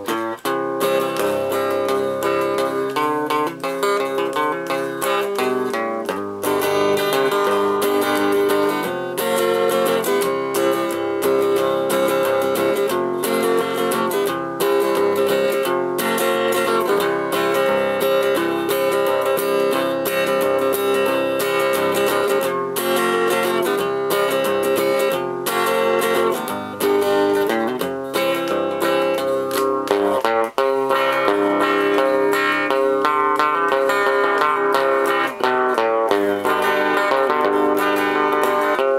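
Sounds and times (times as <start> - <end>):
electric guitar picking and strumming: 0.0 - 38.9.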